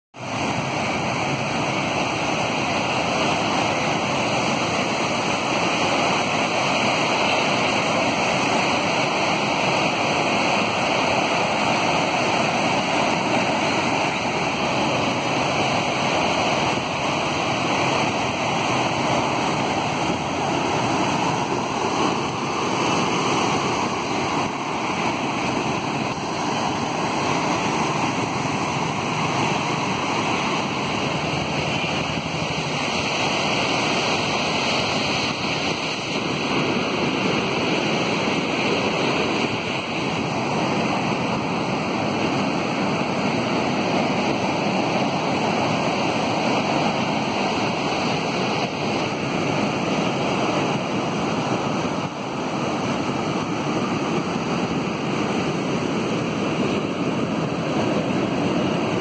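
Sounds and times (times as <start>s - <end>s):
sea surf breaking on rocks: 0.2s - 59.0s.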